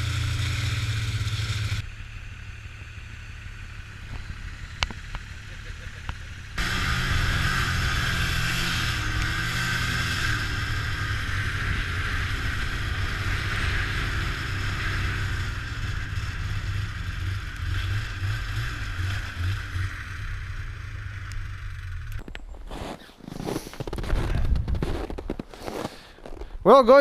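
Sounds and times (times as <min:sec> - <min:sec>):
snowmobile engine running: 0:00.0 - 0:22.2.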